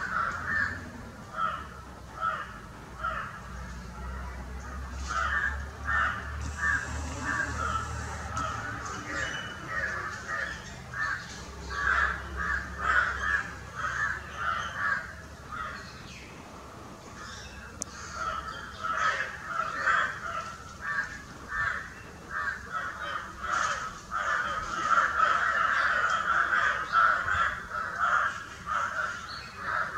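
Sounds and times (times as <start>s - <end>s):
crows cawing: 0.0s - 3.4s, 5.1s - 15.8s, 17.9s - 29.9s.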